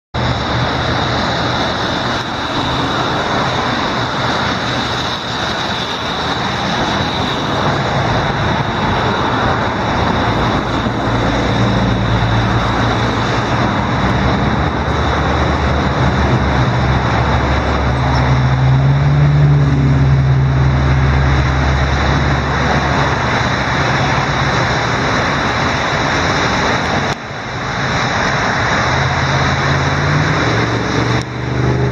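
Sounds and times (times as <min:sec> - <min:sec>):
floodwater rushing: 0:00.2 - 0:31.9
motor vehicle passing: 0:00.2 - 0:31.9.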